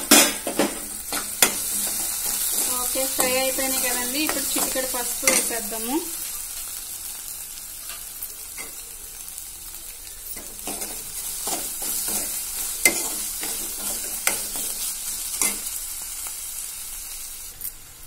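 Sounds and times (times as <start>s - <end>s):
onions sizzling in a pan: 0.0s - 18.0s.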